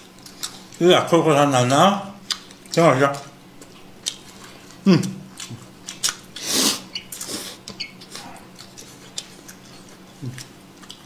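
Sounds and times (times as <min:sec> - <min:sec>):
chewing and mouth sounds: 0:00.0 - 0:00.8, 0:01.7 - 0:11.0.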